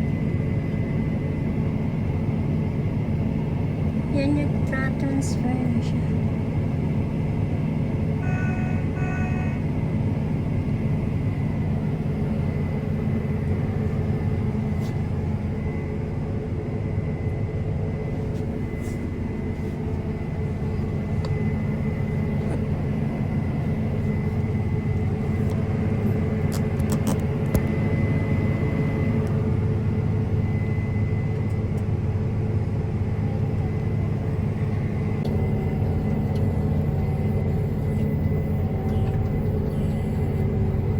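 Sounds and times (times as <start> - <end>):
diesel engine running: 0.0 - 40.9
thin steady whine: 0.0 - 40.9.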